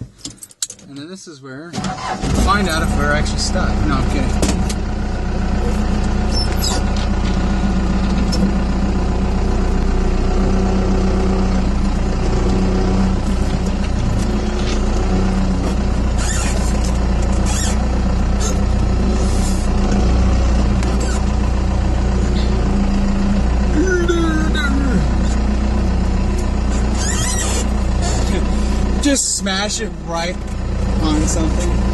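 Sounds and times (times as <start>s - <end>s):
diesel engine running: 1.8s - 31.9s.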